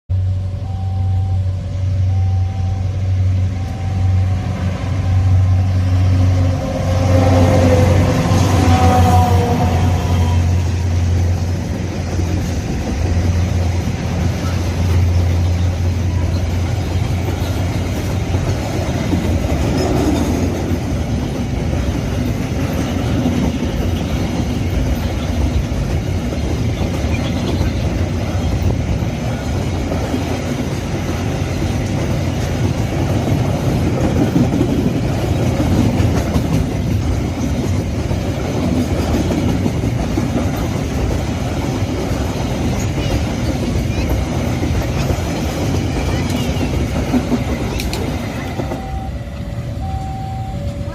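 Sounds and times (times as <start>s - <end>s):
train wheels clattering on rails: 6.0s - 49.0s.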